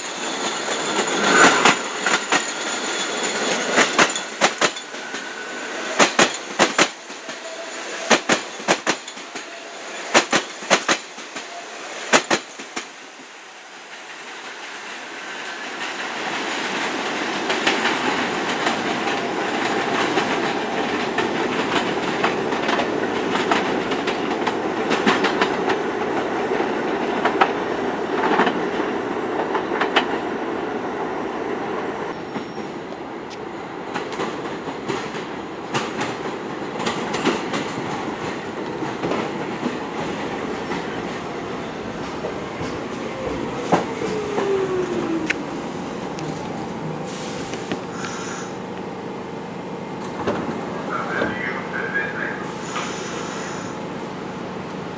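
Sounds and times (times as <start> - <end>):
train wheels clacking over rails: 0.0 - 13.0, 13.8 - 30.3, 32.3 - 48.7
falling whine of slowing train: 0.0 - 54.9.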